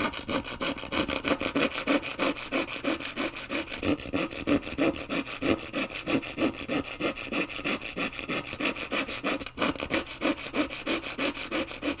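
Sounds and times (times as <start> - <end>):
hacksaw cutting wood: 0.0 - 12.0.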